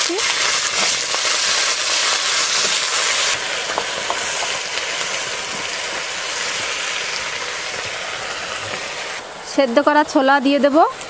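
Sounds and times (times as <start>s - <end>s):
vegetables sizzling in hot oil: 0.0s - 11.0s
oil popping: 0.2s - 9.1s.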